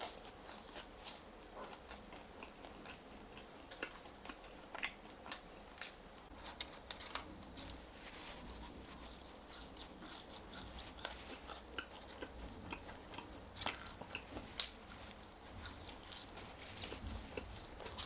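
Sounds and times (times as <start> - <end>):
chewing crisp fries: 0.0 - 18.0.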